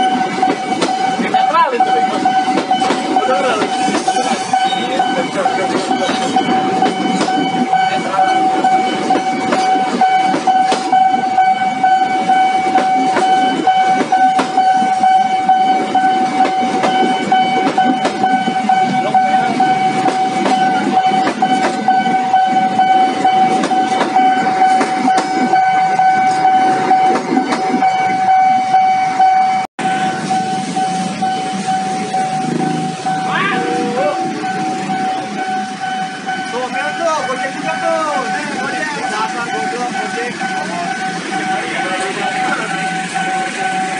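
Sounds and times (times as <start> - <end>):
level crossing warning tone: 0.0 - 43.9
train rumbling past: 0.0 - 43.9.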